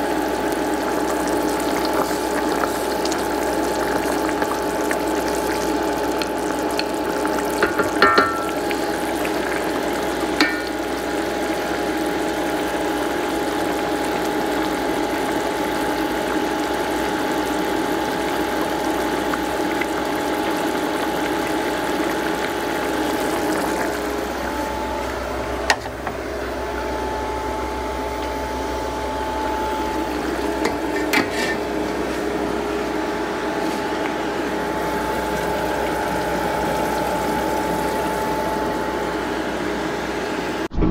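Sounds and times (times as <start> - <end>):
stew bubbling in a pot: 0.0 - 40.9.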